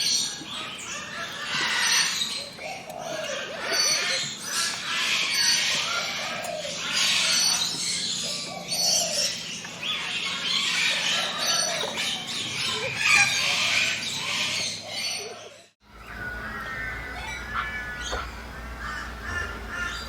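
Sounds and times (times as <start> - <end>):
forest birds chorus: 0.0 - 20.0.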